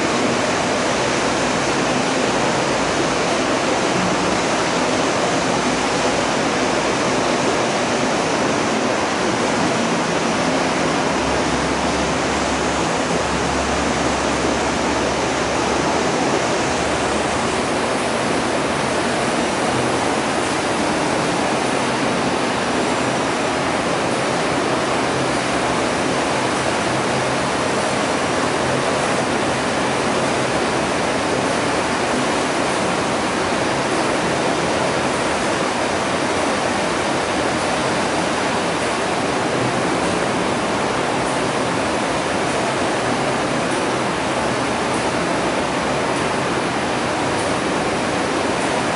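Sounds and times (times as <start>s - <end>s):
water rushing and splashing: 0.0s - 48.9s.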